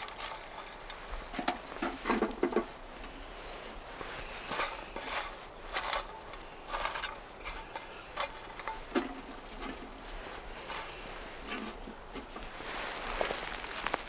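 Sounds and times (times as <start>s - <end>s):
wood shavings rustling: 0.0s - 2.2s, 2.8s - 14.0s.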